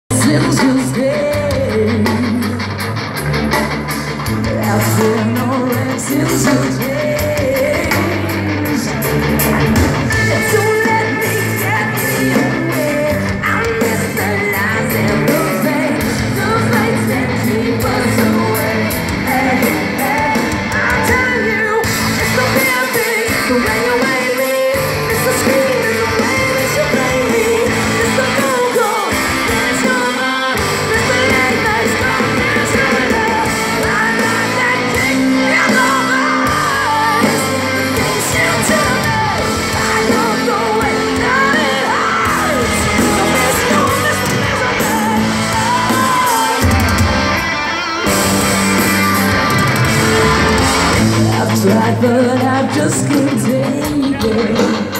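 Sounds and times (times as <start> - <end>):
drums: 0.0 - 54.9
electric guitar: 0.1 - 54.9
person singing with yells: 4.2 - 54.9.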